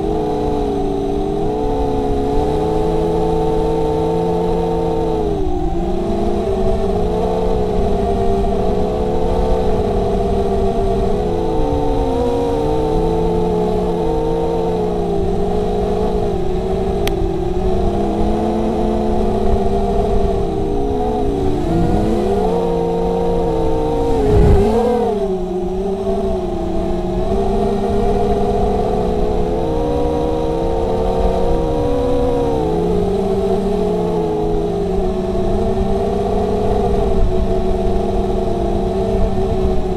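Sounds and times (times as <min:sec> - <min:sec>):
drone motors whining: 0:00.0 - 0:36.6.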